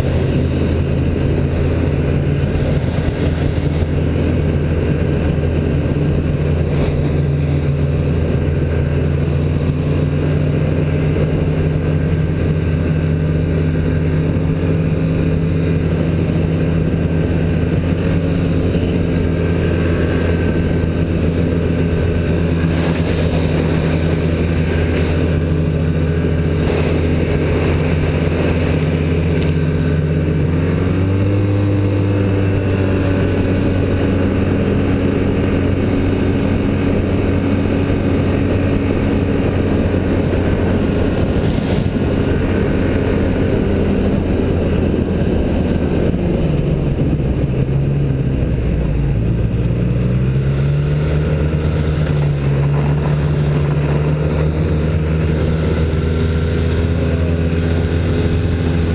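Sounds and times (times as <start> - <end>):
hiss of wind and track: 0.0 - 58.9
snowmobile engine drone: 0.0 - 58.9.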